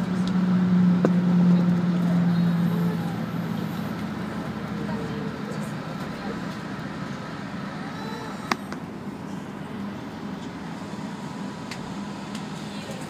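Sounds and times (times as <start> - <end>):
bus engine and road hum: 0.0 - 13.0.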